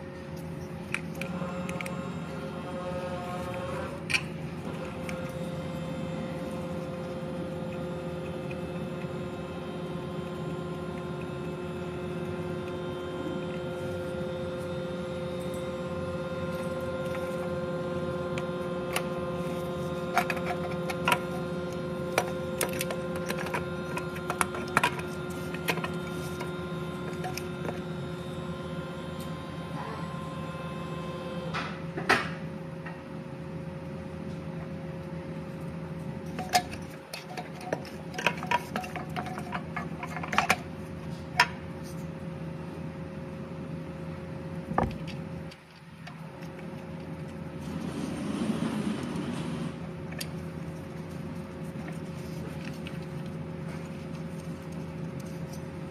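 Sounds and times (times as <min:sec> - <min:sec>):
steady hum: 0:00.0 - 0:55.9.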